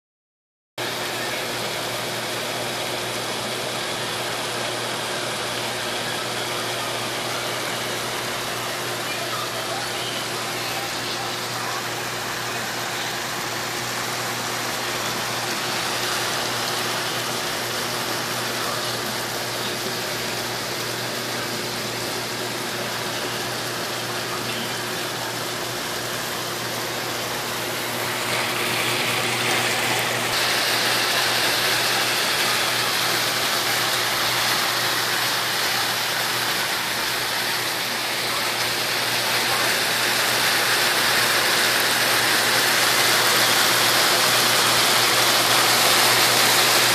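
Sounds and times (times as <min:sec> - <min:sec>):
food sizzling in a frying pan: 0:00.8 - 0:46.9.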